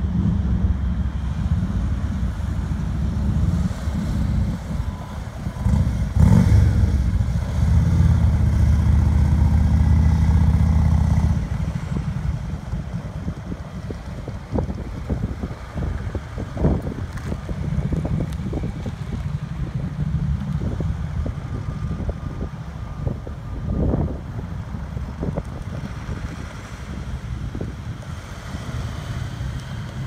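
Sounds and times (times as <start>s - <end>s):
motorcycle engine rumble: 0.0s - 30.0s
traffic noise: 0.0s - 30.0s.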